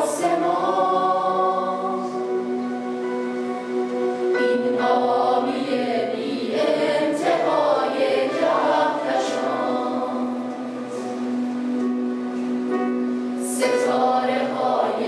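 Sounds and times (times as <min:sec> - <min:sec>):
mixed choir singing: 0:00.0 - 0:11.7, 0:13.3 - 0:15.0.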